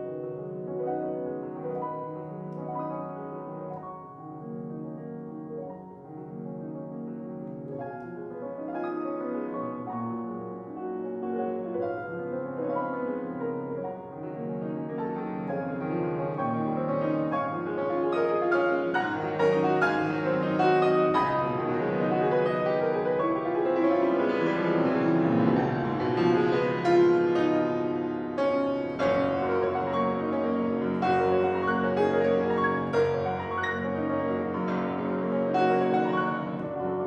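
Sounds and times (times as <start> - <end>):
solo classical piano: 0.0 - 37.0.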